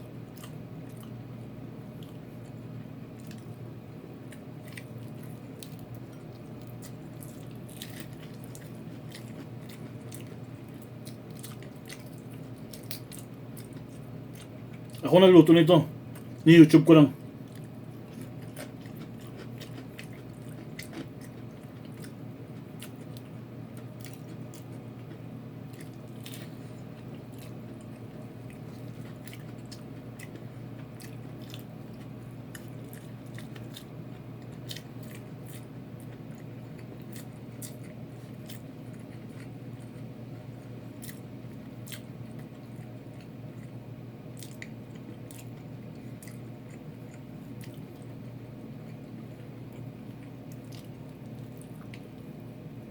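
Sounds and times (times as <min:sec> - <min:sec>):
steady low hum: 0:00.0 - 0:52.9
crunchy chewing: 0:00.3 - 0:01.3, 0:01.9 - 0:15.0, 0:17.2 - 0:52.6.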